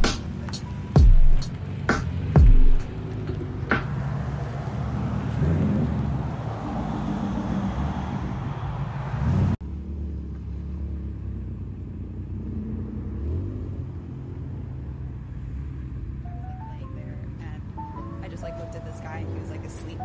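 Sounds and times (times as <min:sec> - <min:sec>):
car engines rumbling past: 0:00.0 - 0:20.0.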